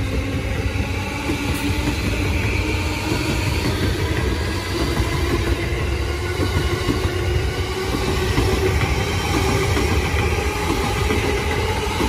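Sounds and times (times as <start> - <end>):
train wheels rumbling: 0.0 - 12.0
train whine: 0.0 - 12.0.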